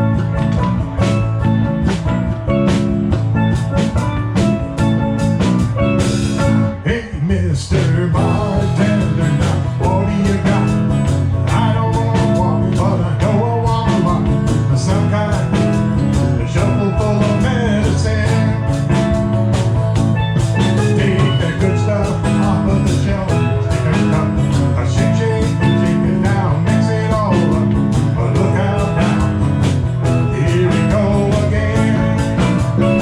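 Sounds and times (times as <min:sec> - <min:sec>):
live band with steel drums: 0:00.0 - 0:33.0.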